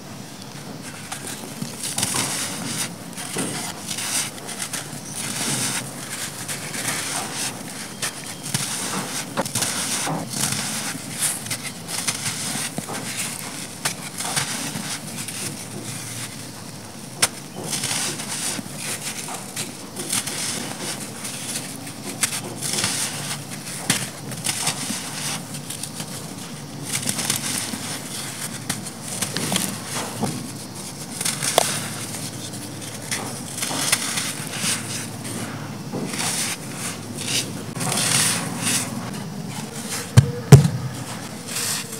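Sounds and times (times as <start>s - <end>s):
sand lumps crunching in hands: 0.8s - 41.9s.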